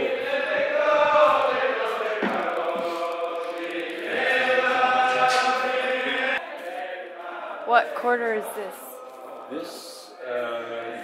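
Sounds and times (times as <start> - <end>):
voices chanting held notes: 0.0 - 11.0.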